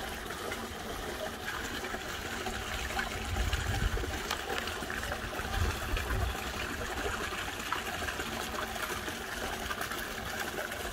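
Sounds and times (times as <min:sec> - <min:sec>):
water trickling into pond: 0:00.0 - 0:10.9.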